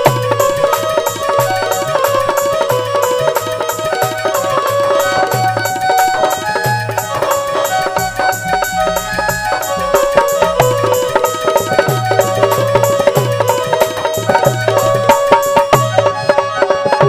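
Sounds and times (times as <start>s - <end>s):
hand drum rhythm: 0.0s - 17.0s
held melody line: 0.0s - 17.0s
high timekeeping ticks: 0.0s - 17.0s.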